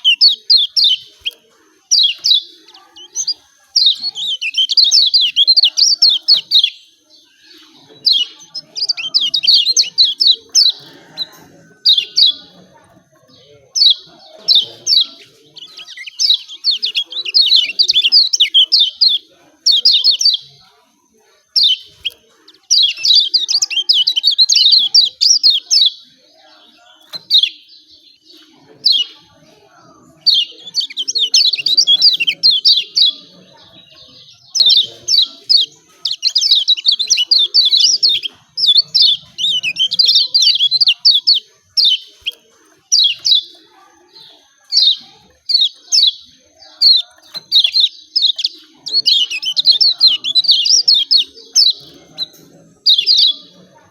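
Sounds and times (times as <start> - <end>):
bird chirping calls: 0.0 - 53.9.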